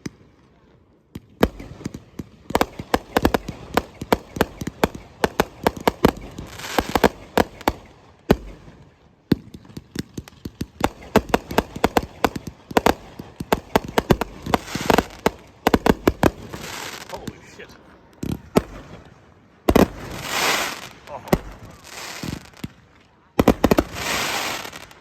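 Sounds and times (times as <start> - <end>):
fireworks crackling: 0.0 - 25.0
fireworks bangs: 1.1 - 25.0.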